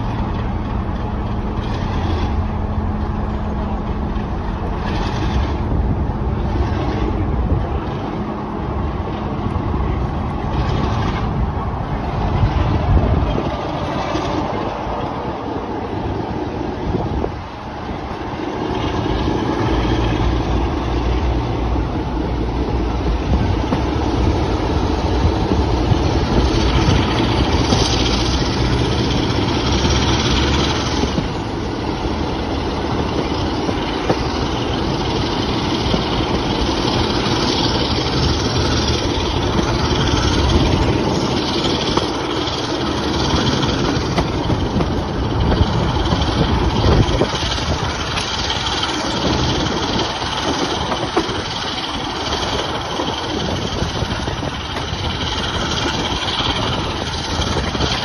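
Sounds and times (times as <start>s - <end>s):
diesel locomotive engine: 0.0s - 58.0s
train coaches on rails: 0.0s - 58.0s
wind buffeting microphone: 0.0s - 58.0s.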